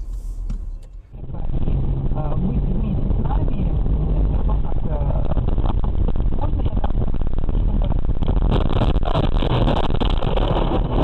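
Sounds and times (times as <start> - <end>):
car engine and tyre noise on snow: 0.0 - 11.0.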